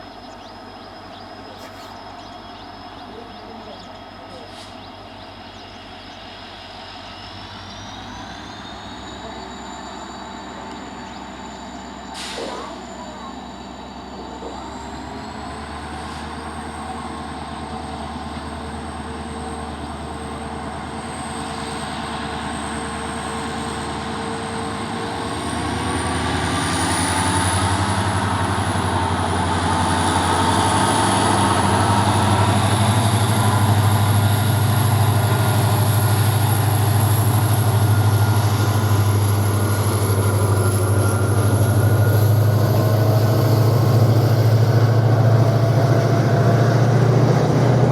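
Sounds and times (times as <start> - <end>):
diesel locomotive engine hum: 0.0 - 47.9.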